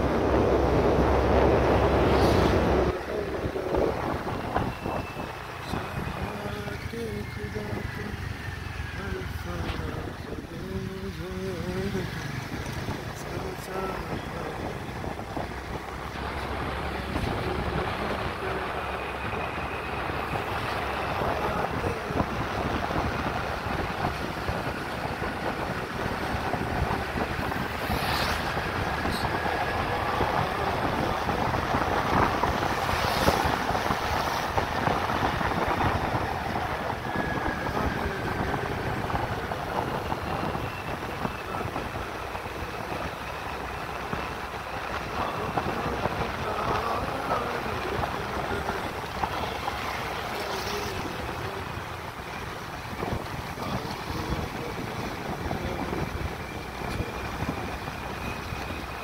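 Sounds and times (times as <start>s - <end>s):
tyres on wet road: 0.0s - 59.0s
wind buffeting microphone: 0.0s - 59.0s
scooter engine: 4.7s - 59.0s.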